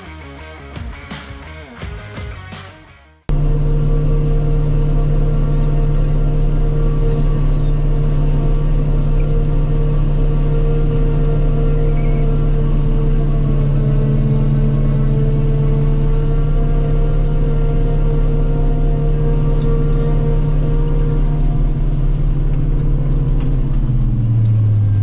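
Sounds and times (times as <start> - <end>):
forage harvester machinery drone: 3.3 - 25.0.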